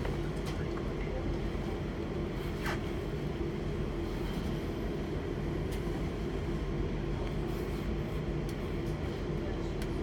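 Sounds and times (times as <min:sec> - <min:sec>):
train carriage hum and rumble: 0:00.0 - 0:10.0.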